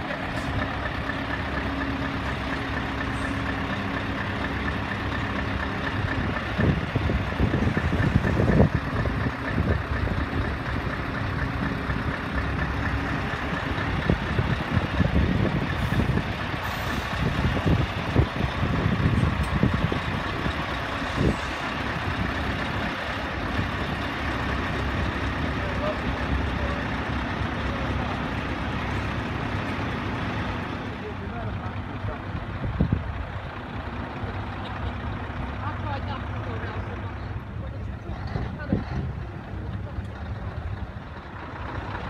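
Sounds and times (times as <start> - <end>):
truck diesel engine idling: 0.0 - 42.0.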